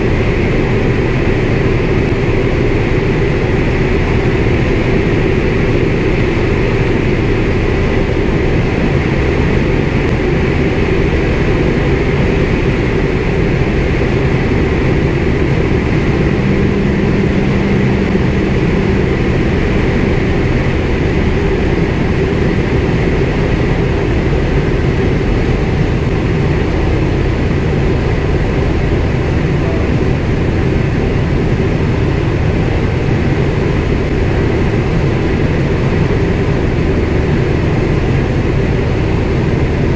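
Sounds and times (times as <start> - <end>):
radial engine and propeller running: 0.0 - 39.9.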